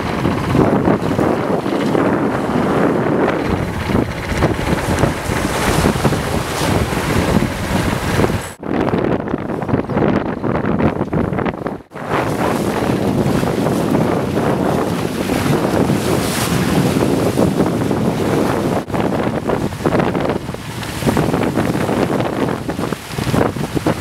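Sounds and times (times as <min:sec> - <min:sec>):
water splashing along hull: 0:00.0 - 0:24.0
wind buffeting microphone: 0:00.0 - 0:24.0.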